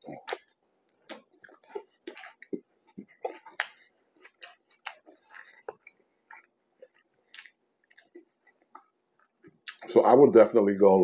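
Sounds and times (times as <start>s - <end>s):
man chewing food: 0.0s - 9.9s
mouth smacks and clicks: 0.0s - 9.9s.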